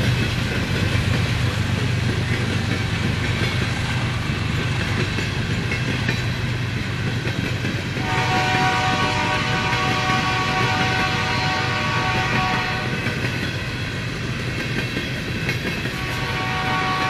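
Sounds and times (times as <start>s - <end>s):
wheel-on-rail rumble and clatter: 0.0s - 17.0s.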